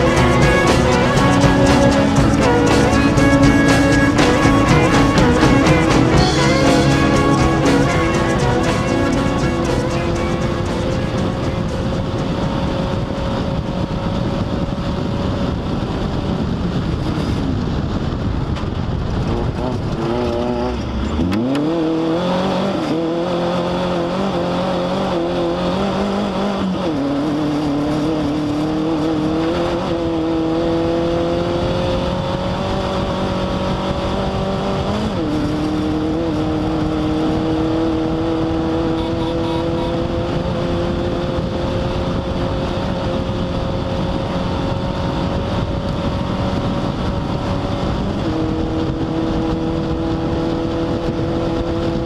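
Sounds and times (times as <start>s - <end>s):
race car engine running hard: 0.0s - 52.0s
steady rushing noise: 0.0s - 52.0s.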